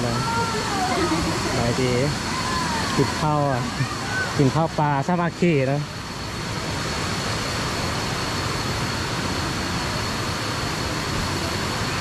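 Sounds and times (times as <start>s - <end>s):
thin high steady tone: 0.0s - 12.0s
waterfall rushing: 0.0s - 12.0s.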